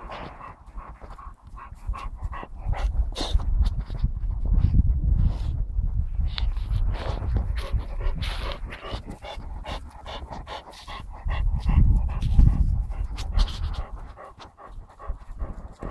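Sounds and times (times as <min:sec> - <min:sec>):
dog panting: 0:00.0 - 0:04.8, 0:06.2 - 0:15.9
low rumbling on microphone: 0:00.0 - 0:15.9.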